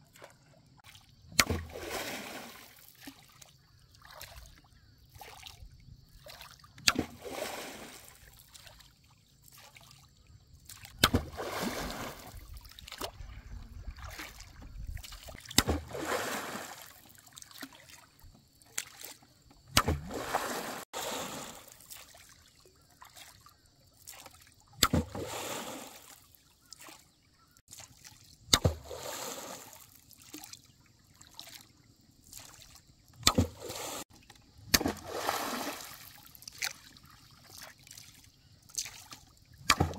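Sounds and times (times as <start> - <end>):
pole slapping water surface: 0.0 - 27.1, 27.7 - 31.7, 32.3 - 39.9
water splashing: 0.0 - 39.9.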